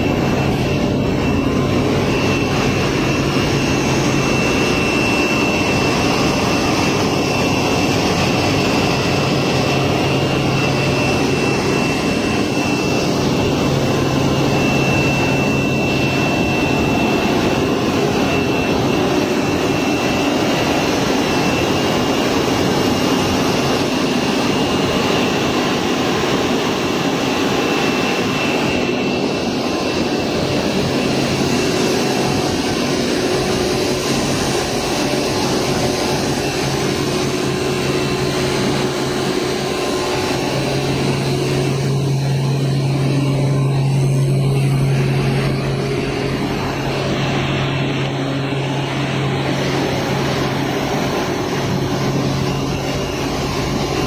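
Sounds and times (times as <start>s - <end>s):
loud machinery noise: 0.0s - 54.0s
low hum: 0.0s - 54.0s
thin high whine: 0.0s - 54.0s.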